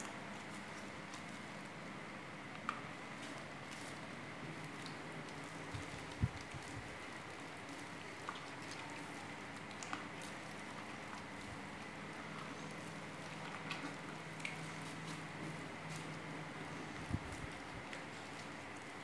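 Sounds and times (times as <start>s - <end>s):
grapes squishing: 0.0s - 19.0s
low hum and hiss: 0.0s - 19.0s.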